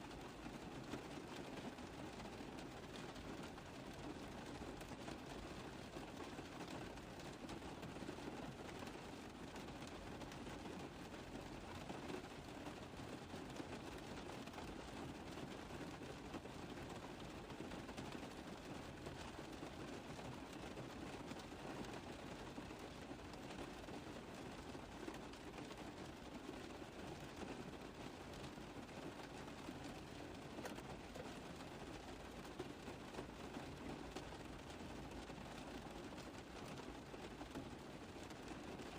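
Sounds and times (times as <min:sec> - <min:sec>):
rain on a car roof: 0:00.0 - 0:38.9.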